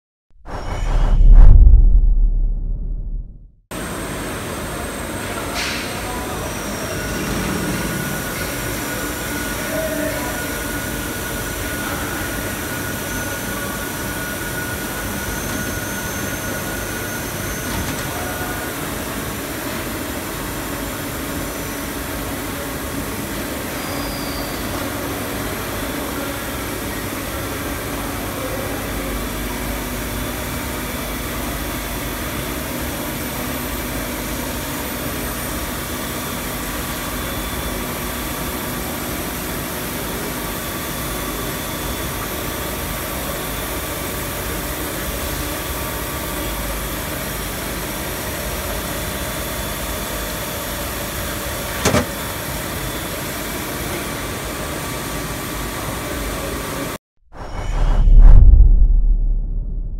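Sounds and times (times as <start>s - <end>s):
lathe running hum and hiss: 3.8s - 56.9s.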